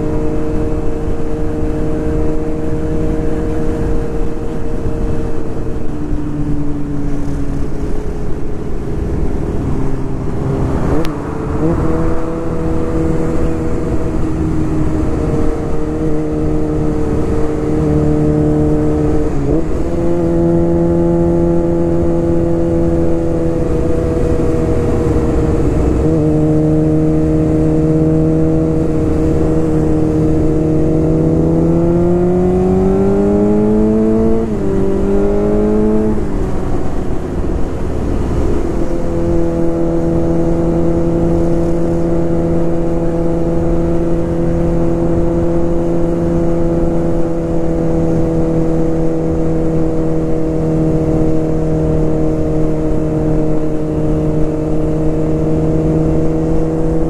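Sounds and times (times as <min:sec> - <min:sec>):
motorcycle engine cruising and revving: 0:00.0 - 0:57.0
wind rush on microphone: 0:00.0 - 0:57.0.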